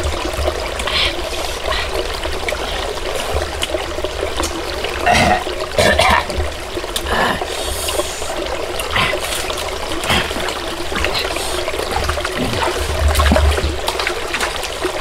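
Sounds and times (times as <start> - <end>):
stream trickling over stones: 0.0 - 15.0.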